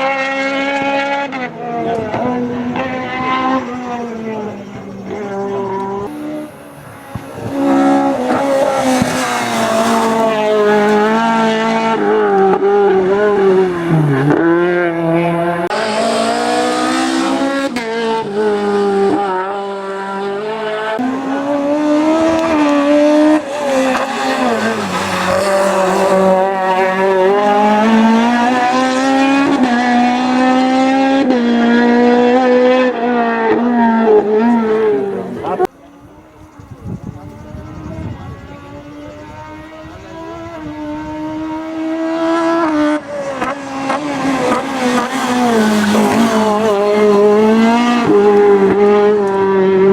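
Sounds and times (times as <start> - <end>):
race car engine at high revs: 0.0 - 49.9.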